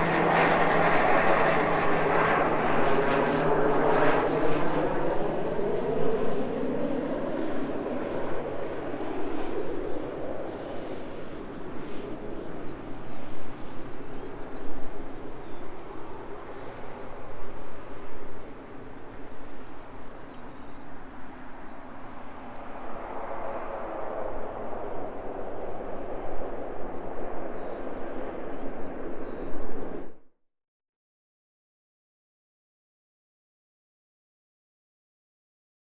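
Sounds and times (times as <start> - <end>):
propeller plane engine: 0.0 - 30.2.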